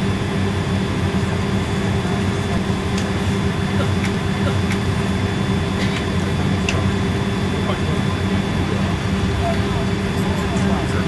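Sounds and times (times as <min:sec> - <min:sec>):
airliner cabin hum: 0:00.0 - 0:11.0.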